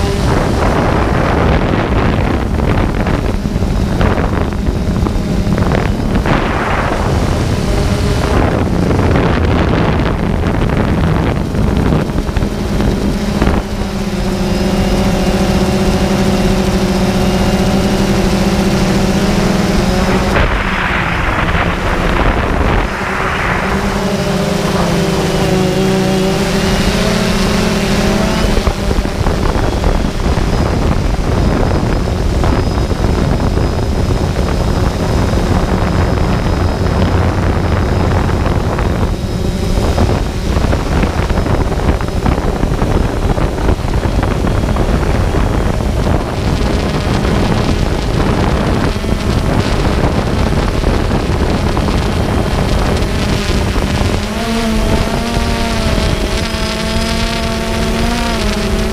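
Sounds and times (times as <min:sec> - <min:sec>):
drone propellers buzzing: 0:00.0 - 0:58.9
wind noise on microphone: 0:00.0 - 0:58.9.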